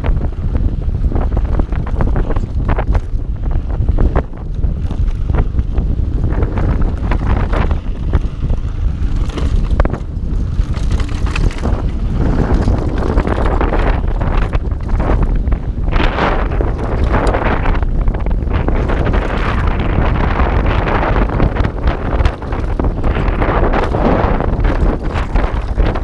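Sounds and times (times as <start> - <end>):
bike knocking and rattling: 0.0 - 26.0
wind buffeting microphone: 0.0 - 26.0.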